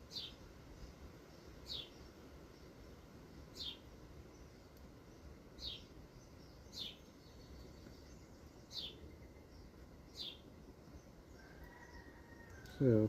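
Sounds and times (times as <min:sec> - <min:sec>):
faint bird chirps: 0:00.0 - 0:13.0
low steady background noise: 0:00.0 - 0:13.0.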